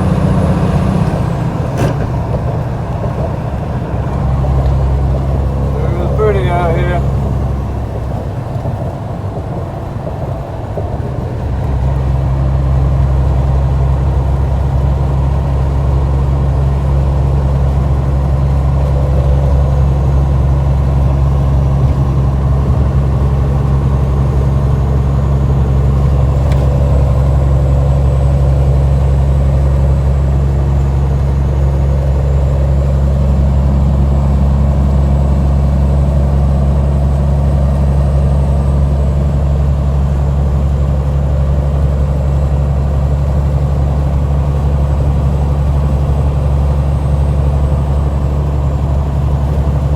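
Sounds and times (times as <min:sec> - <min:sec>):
truck diesel engine droning: 0:00.0 - 0:49.9.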